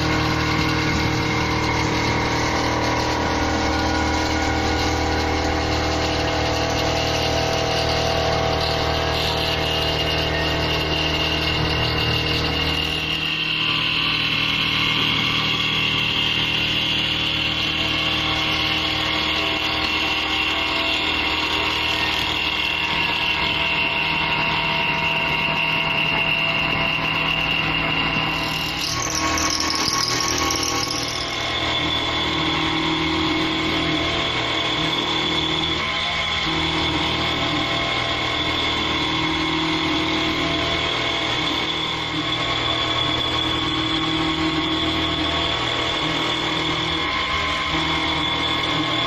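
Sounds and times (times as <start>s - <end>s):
high squeal: 0.0s - 49.0s
milling machine spindle whine: 0.0s - 49.0s.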